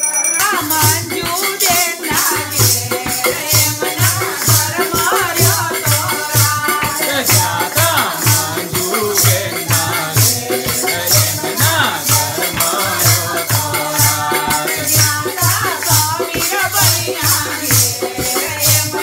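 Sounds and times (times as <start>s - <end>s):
group singing devotional song: 0.4s - 19.0s
hand-clapping: 0.4s - 19.0s.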